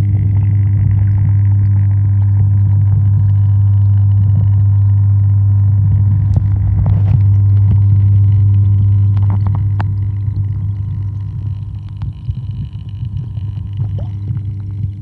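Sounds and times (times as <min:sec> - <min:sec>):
underwater pump hum: 0:00.0 - 0:15.0.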